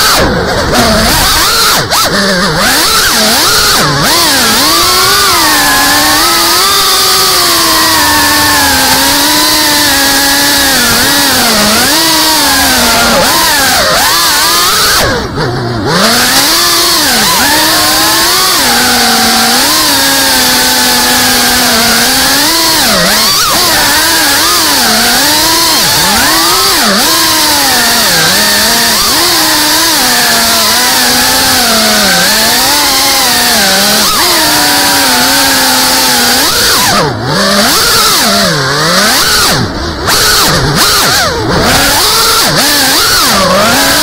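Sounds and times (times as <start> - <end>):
drone motors buzzing: 0.0 - 44.0.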